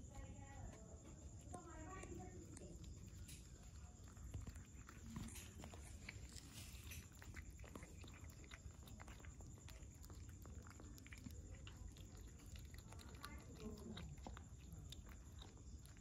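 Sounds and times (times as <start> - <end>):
cats chewing from metal bowl: 0.0 - 16.0.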